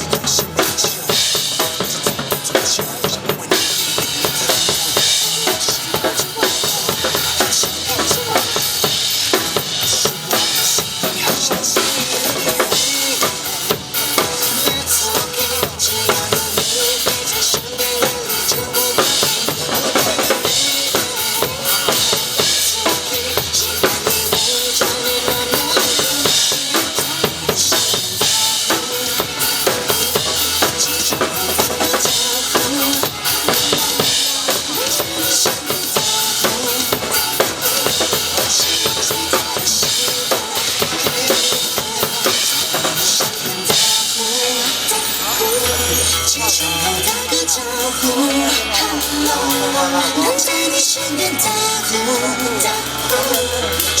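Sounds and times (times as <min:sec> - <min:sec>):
backing music with melody: 0:00.0 - 0:54.0
drum kit playing a beat: 0:00.0 - 0:54.0.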